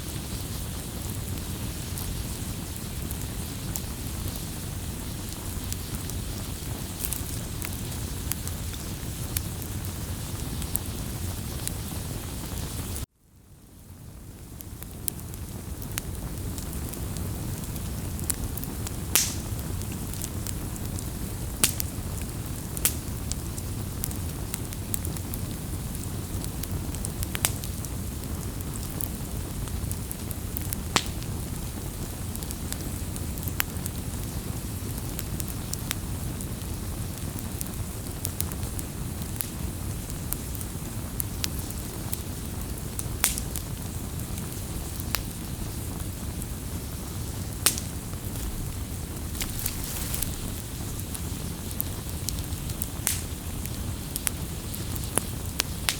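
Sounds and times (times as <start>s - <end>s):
bonfire flame rumble: 0.0s - 55.9s
burning wood crackling and popping: 0.0s - 55.9s.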